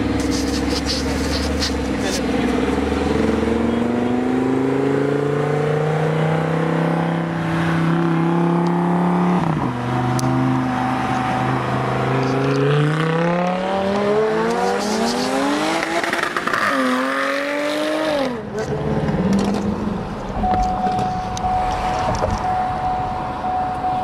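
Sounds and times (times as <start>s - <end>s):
sports car engine accelerating: 0.0s - 24.0s.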